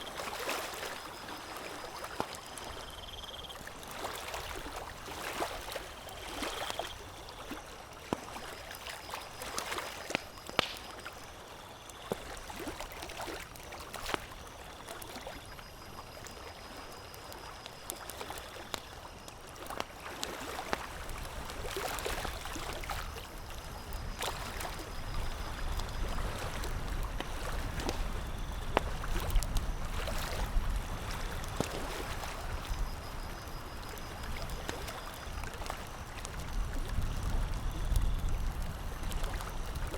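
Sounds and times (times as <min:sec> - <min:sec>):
campfire crackling and popping: 0:04.6 - 0:39.9.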